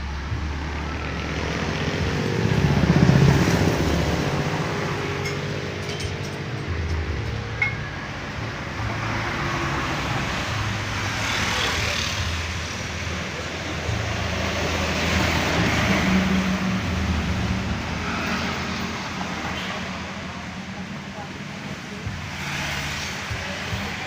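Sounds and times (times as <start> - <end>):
traffic passing: 0.0 - 24.0.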